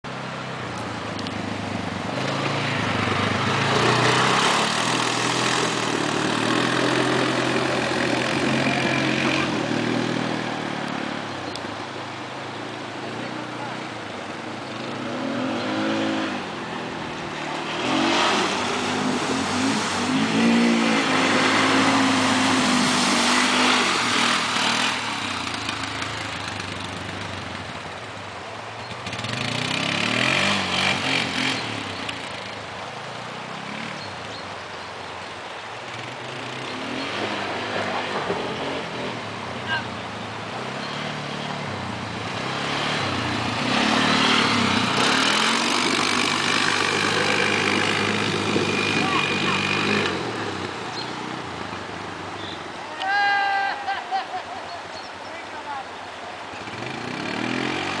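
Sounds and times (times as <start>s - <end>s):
creek water rushing: 0.1s - 58.0s
quad bike engines revving: 0.1s - 58.0s.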